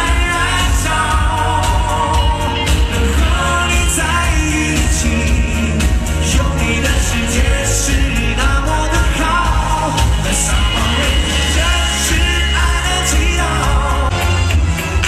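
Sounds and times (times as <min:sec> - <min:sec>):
man singing into a microphone: 0:00.0 - 0:14.2
pop backing music with heavy bass: 0:00.0 - 0:15.0.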